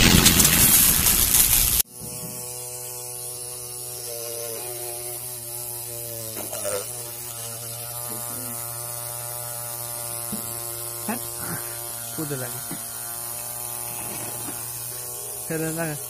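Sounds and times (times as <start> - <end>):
electric motor hum with whine: 1.6 - 16.0.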